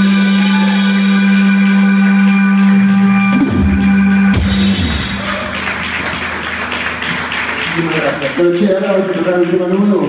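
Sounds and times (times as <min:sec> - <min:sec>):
live rock band: 0:00.0 - 0:08.4.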